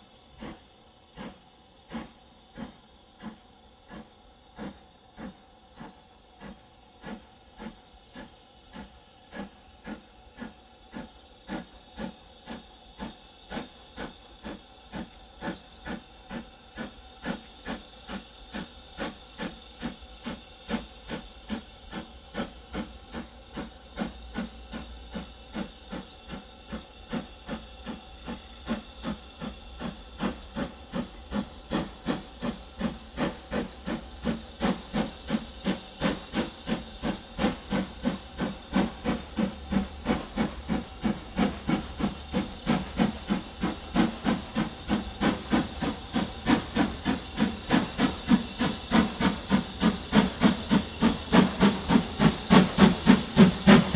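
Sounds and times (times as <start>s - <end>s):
steam locomotive exhaust beats: 0.0s - 53.9s.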